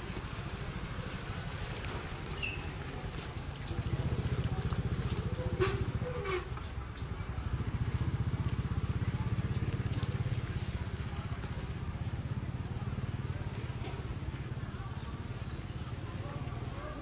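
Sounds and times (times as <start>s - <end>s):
low pulsing motor rumble: 0.0s - 16.8s.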